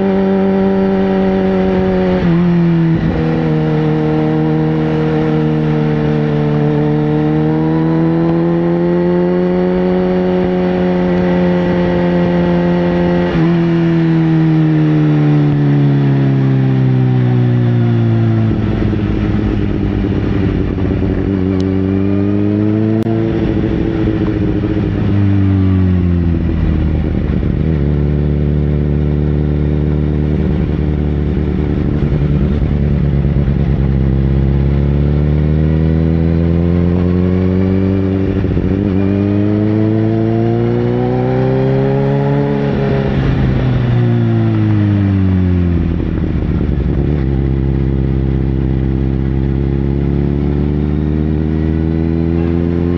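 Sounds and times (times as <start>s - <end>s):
sportbike engine accelerating: 0.0s - 52.9s.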